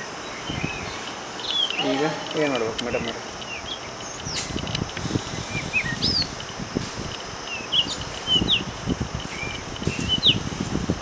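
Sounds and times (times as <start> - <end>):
small birds whistling: 0.0 - 2.7, 3.4 - 6.5, 7.4 - 10.6.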